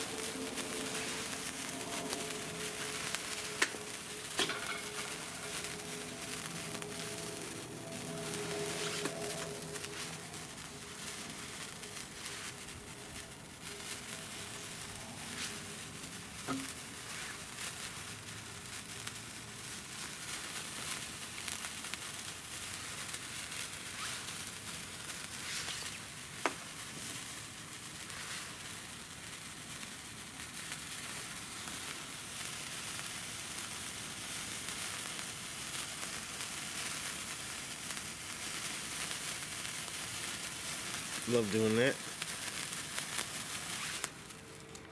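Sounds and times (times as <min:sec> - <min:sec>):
sparklers hissing and crackling: 0:00.0 - 0:44.9.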